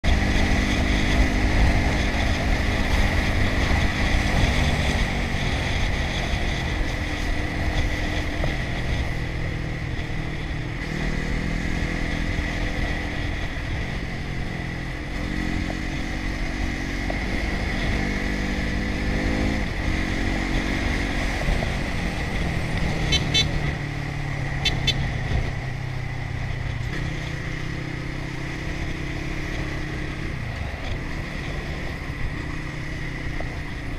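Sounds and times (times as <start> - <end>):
motorcycle engine: 0.0 - 33.9
wind and road noise: 0.0 - 33.9.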